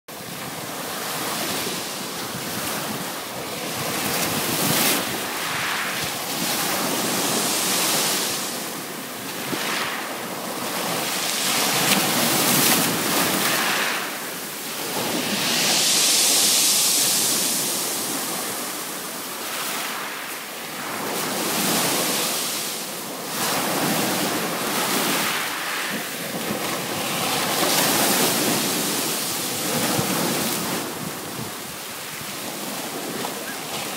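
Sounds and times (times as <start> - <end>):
waves washing over pebbles: 0.2 - 33.9.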